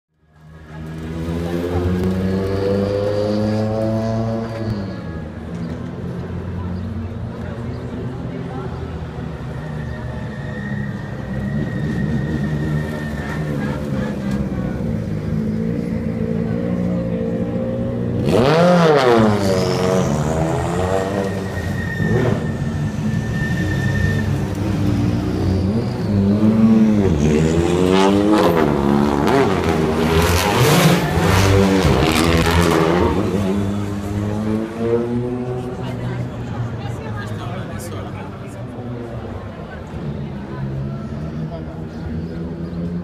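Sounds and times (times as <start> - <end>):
rally car engines revving: 0.4 - 43.0.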